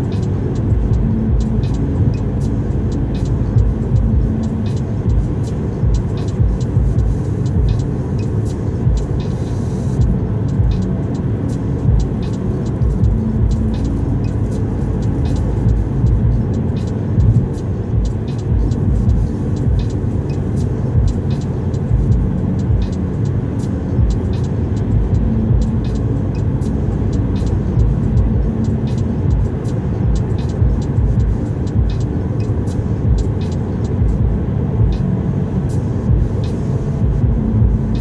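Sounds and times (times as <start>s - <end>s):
car cabin road rumble: 0.0s - 38.0s.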